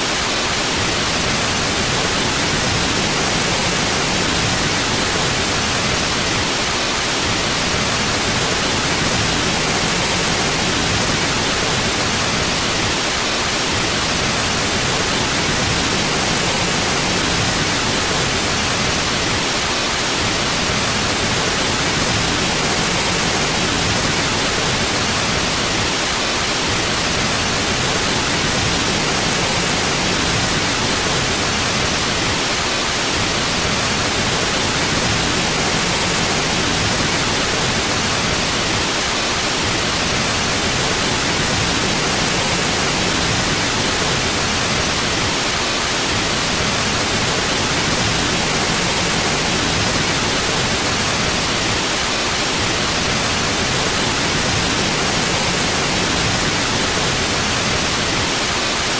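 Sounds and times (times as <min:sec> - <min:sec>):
steady white noise hiss: 0:00.0 - 0:58.9.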